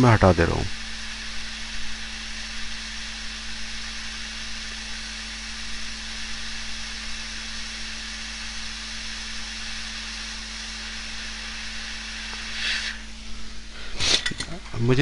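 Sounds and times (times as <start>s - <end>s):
hot air hissing: 0.0s - 14.6s
blower hum: 0.0s - 15.0s.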